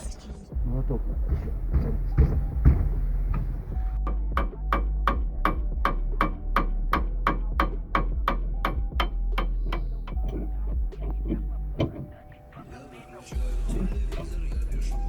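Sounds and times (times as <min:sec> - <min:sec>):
hammer striking metal: 0:00.6 - 0:15.0.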